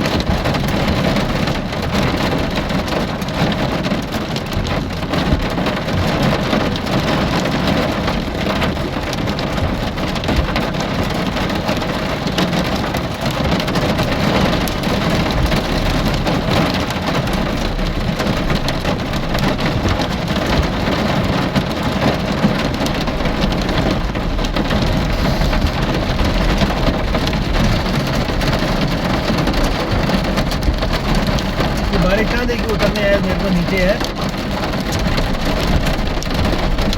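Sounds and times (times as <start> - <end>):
heavy rain pattering: 0.0 - 36.9.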